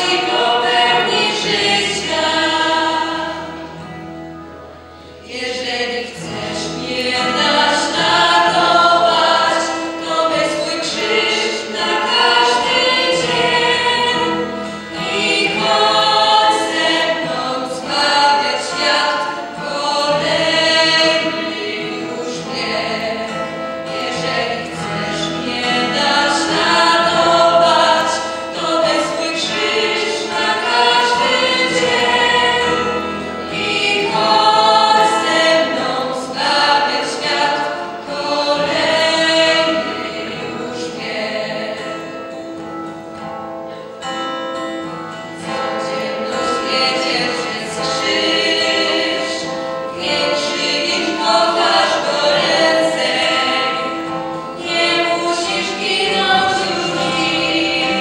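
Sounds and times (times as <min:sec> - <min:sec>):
young voices singing together: 0:00.0 - 0:04.0, 0:05.2 - 0:42.6, 0:45.1 - 0:58.0.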